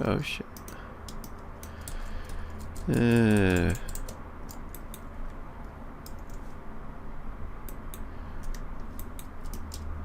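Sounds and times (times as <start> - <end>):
steady low hum: 0.0 - 10.0
keyboard and mouse clicks: 0.6 - 6.4, 7.6 - 10.0.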